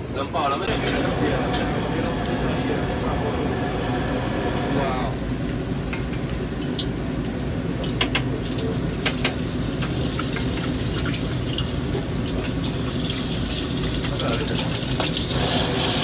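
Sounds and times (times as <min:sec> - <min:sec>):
wok sizzling: 0:00.7 - 0:16.0.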